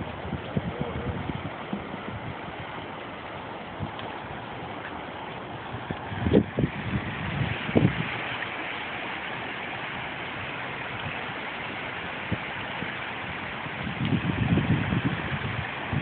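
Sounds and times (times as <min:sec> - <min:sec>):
floodwater rushing: 0:00.0 - 0:16.0
low rumbling: 0:00.0 - 0:16.0.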